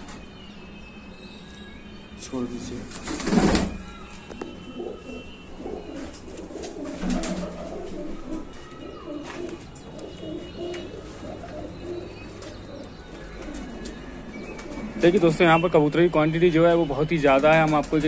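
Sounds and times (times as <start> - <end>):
pigeons cooing: 3.0 - 18.0.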